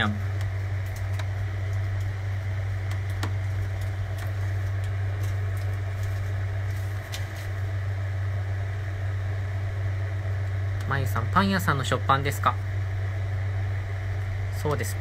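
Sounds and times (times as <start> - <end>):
machine hum with airy hiss: 0.0 - 15.0.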